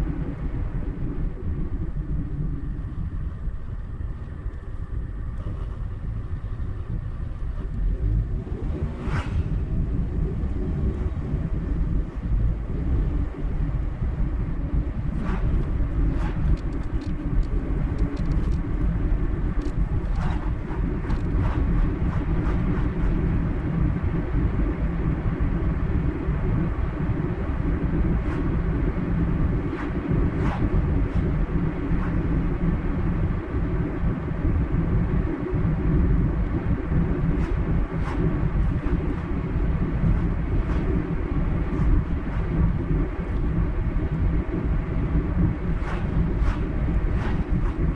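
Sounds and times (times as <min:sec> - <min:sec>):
tyre and road noise: 0:00.0 - 0:34.6, 0:36.4 - 0:47.9.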